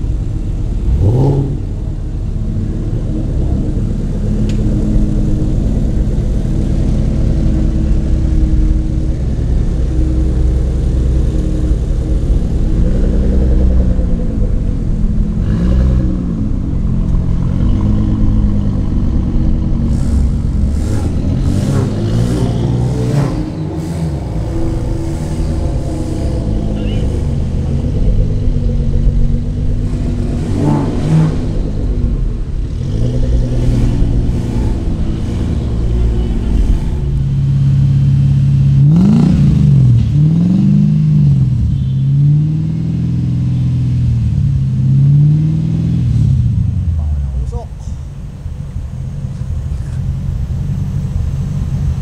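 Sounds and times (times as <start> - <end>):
car engine at low revs: 0.0 - 52.0
car engine idling and blipped: 0.0 - 52.0.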